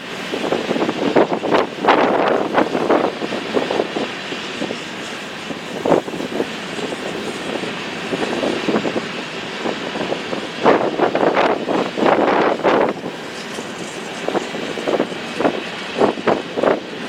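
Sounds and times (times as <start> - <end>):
train cars rumbling: 0.0 - 17.0
wheels clacking over rails: 0.0 - 17.0
wind on microphone: 0.0 - 17.0.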